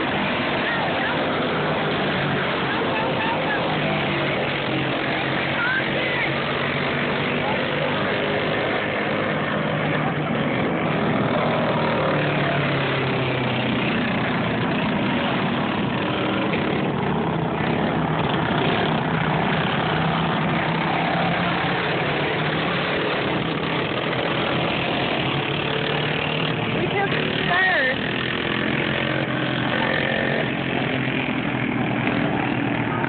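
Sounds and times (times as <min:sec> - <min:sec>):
go-kart engines droning: 0:00.0 - 0:33.0.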